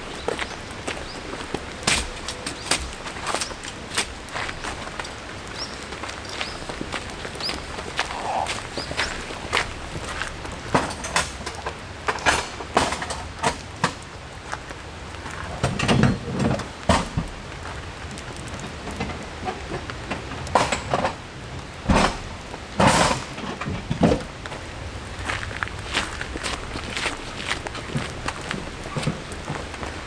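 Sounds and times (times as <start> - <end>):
camp gear knocking and clattering: 0.0 - 17.8, 18.5 - 24.9, 25.8 - 30.0
steady rain: 0.0 - 30.0.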